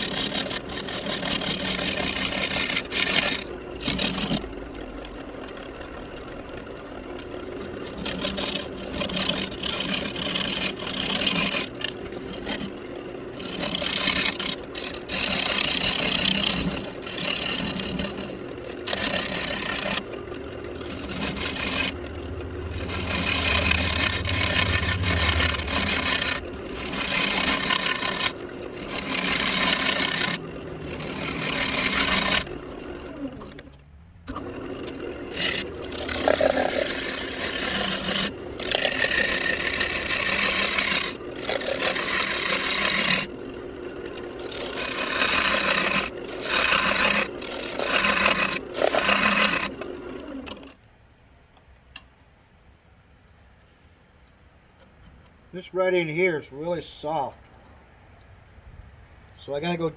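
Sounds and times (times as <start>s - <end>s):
lathe tool scraping wood: 0.0s - 50.8s.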